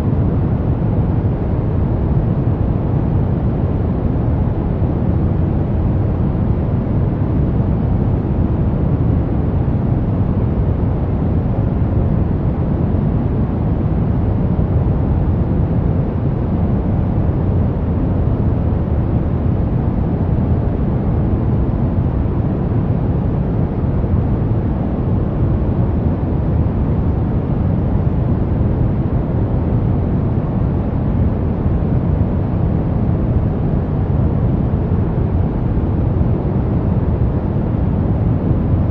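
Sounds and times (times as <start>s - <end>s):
brown noise hiss: 0.0s - 38.9s.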